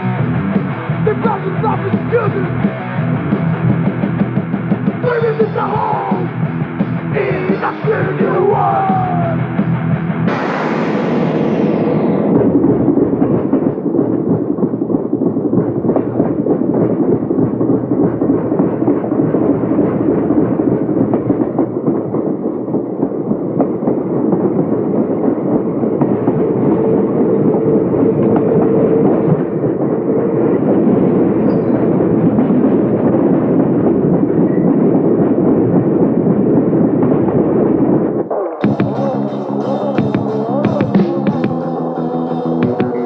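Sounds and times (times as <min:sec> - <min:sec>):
subway train rumbling: 0:00.0 - 0:43.0.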